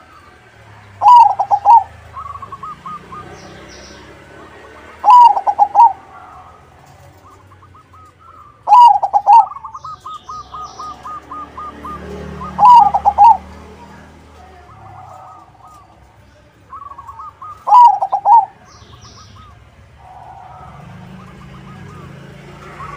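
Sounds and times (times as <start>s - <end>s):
dove singing rippling coo: 0.0s - 22.9s.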